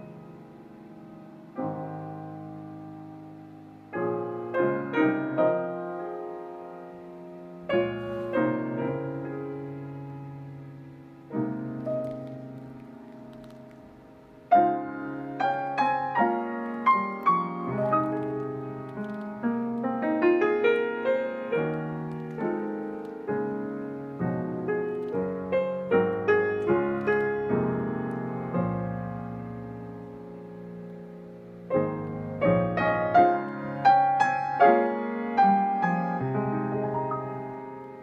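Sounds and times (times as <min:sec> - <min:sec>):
grand piano playing: 0:00.0 - 0:38.0.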